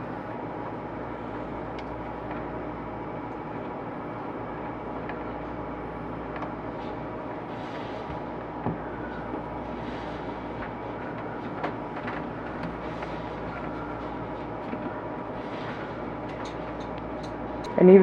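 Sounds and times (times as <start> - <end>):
steady machine hum and hiss: 0.0 - 18.0.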